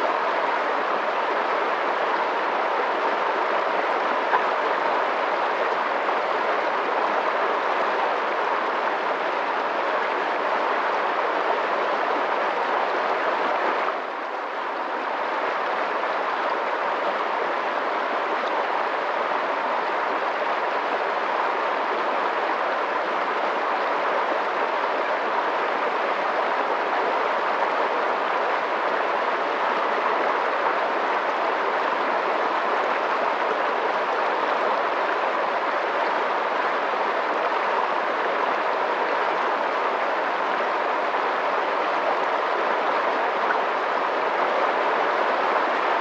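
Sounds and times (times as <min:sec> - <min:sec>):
fast-flowing water rushing: 0:00.0 - 0:46.0.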